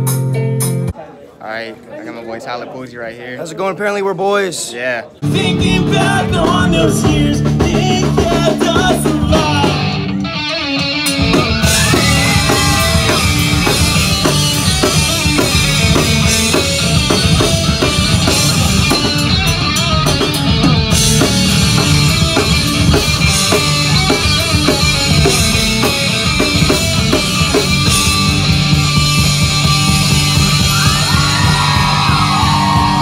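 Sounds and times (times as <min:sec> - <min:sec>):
rock band playing: 0:00.0 - 0:01.0, 0:05.2 - 0:33.0.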